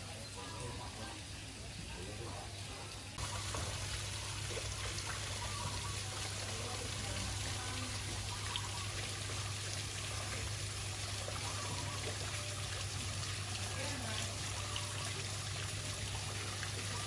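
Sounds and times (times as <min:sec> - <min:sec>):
running water pouring: 0:00.4 - 0:17.0.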